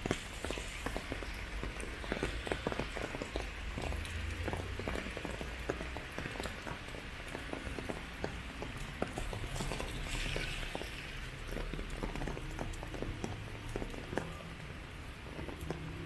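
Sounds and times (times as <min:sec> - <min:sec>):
falling rain hiss: 0:00.0 - 0:16.0
raindrops tapping on umbrella: 0:00.0 - 0:16.0.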